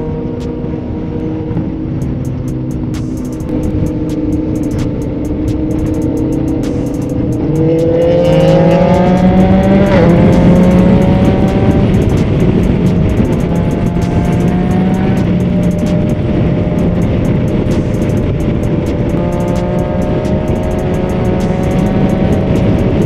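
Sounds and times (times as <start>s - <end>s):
motorcycle engine accelerating: 0.0s - 23.0s
wind on microphone: 0.0s - 23.0s.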